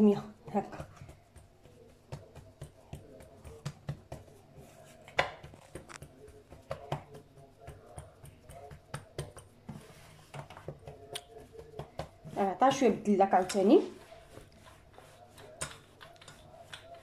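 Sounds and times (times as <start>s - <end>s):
fingertips patting dough on countertop: 0.0s - 17.0s.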